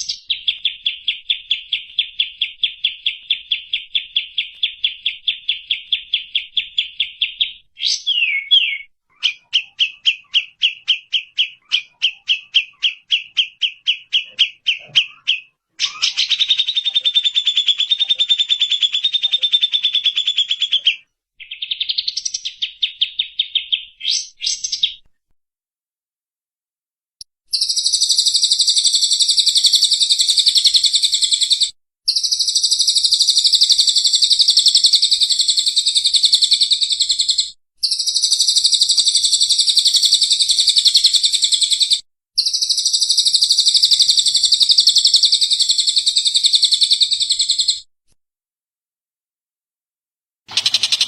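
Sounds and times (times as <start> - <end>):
songbird chattering song: 0.0 - 25.1, 27.5 - 47.9, 50.5 - 51.0.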